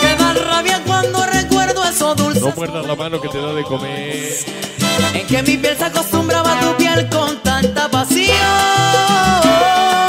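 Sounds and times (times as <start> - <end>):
salsa music: 0.0 - 10.0.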